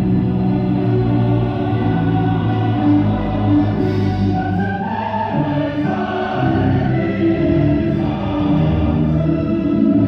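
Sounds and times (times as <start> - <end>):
choir singing held notes: 0.0 - 10.0
musical backing: 0.0 - 10.0.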